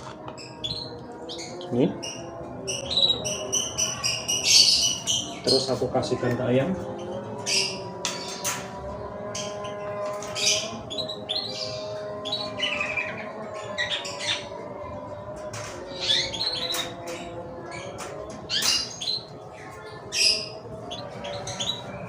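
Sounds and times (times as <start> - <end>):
birds chirping and squawking: 0.0 - 22.0.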